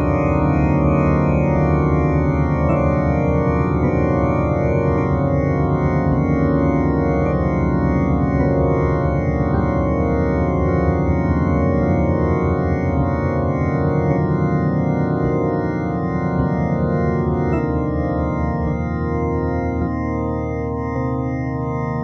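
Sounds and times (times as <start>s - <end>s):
sustained synthesized chords: 0.0s - 22.0s.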